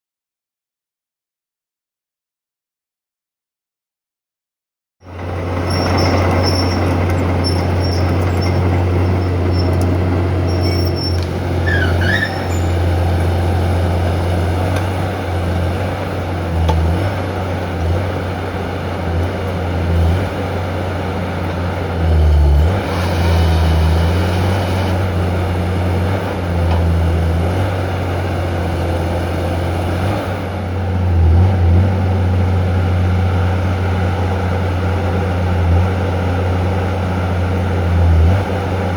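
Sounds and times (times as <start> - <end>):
heavy diesel engine droning: 5.0 - 38.9.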